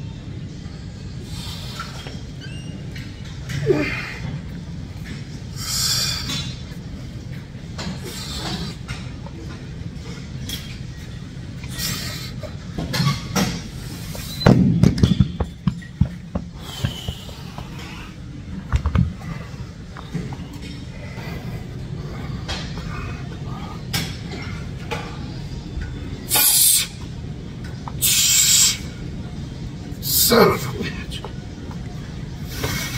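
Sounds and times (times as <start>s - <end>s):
low gym hum: 0.0s - 32.9s.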